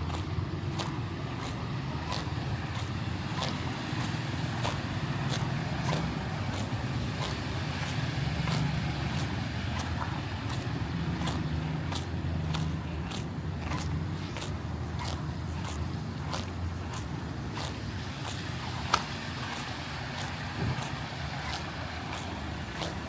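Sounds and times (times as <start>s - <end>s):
footsteps walking: 0.0s - 23.0s
road traffic rumble: 0.0s - 23.0s.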